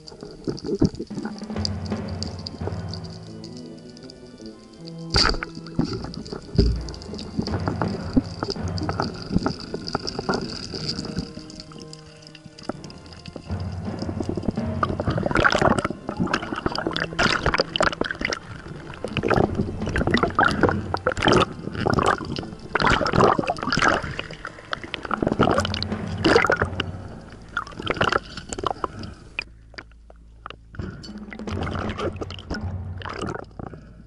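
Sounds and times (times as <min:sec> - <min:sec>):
underwater sloshing and gurgling: 0:00.0 - 0:34.0.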